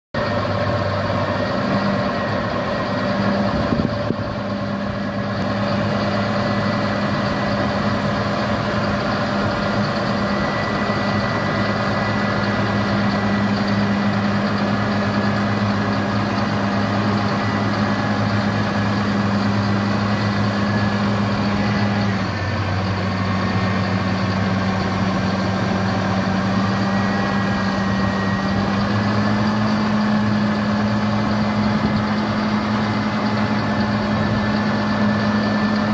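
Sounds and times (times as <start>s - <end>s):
tractor diesel engine running: 0.2s - 35.9s.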